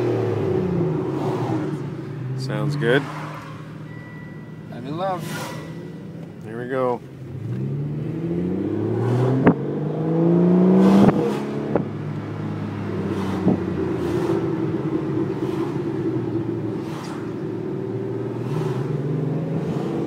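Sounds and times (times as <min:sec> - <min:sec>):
car engine accelerating in cabin: 0:00.0 - 0:03.0, 0:06.2 - 0:20.0.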